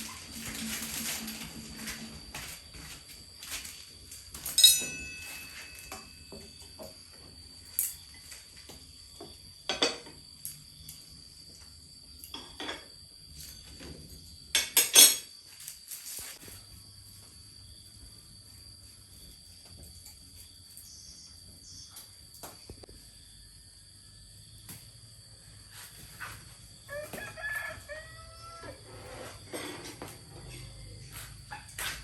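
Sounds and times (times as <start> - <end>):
high insect chirr: 0.0 - 32.0.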